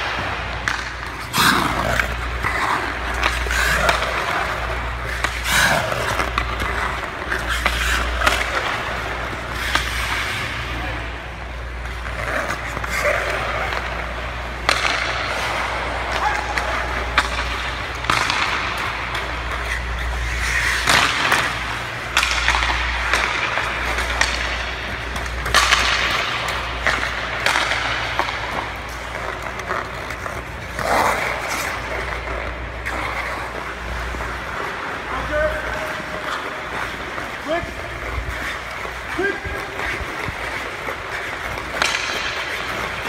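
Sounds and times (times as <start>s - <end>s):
skate blades scraping on ice: 0.0s - 43.0s
steady low hum: 0.0s - 43.0s.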